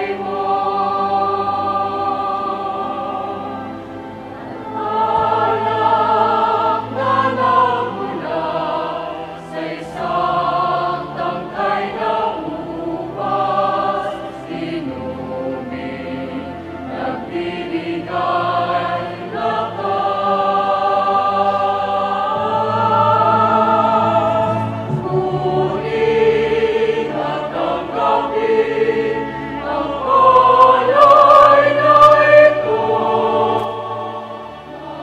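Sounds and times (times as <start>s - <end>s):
choir singing long held notes: 0.0s - 35.0s.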